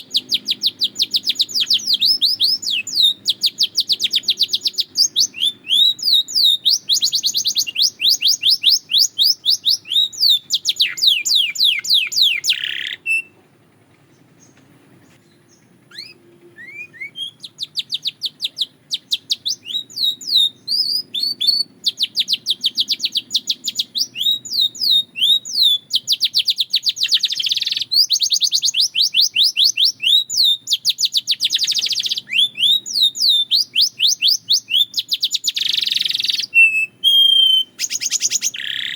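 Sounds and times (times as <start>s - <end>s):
canary singing rapid trills: 0.0s - 13.4s, 14.0s - 38.9s.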